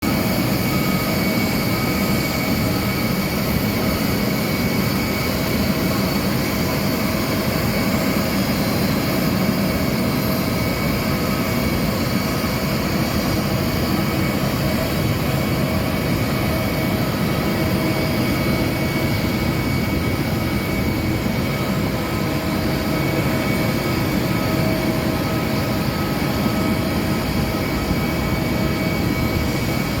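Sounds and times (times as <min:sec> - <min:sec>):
aircraft turbine roar and whine: 0:00.0 - 0:30.0.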